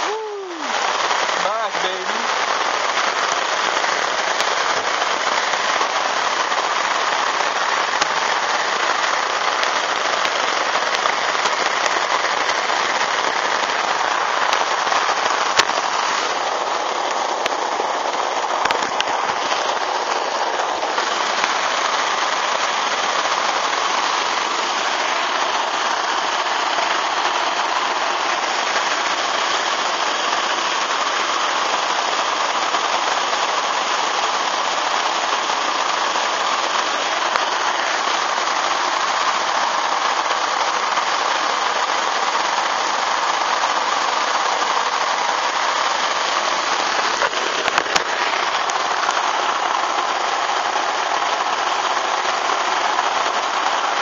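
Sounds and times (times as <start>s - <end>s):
heavy rain on lake and umbrella: 0.0s - 54.0s.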